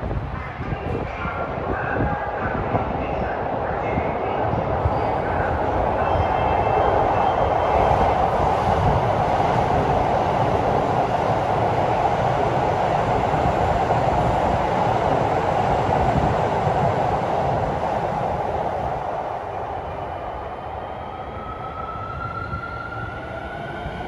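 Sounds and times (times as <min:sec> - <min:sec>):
train rumble and hum: 0:00.0 - 0:24.0.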